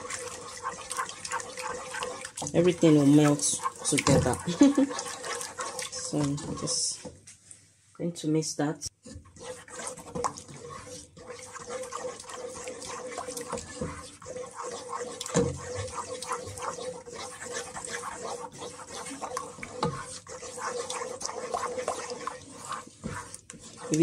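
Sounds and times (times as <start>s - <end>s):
spoon stirring gravy in pot: 0.0s - 7.2s, 8.9s - 24.0s.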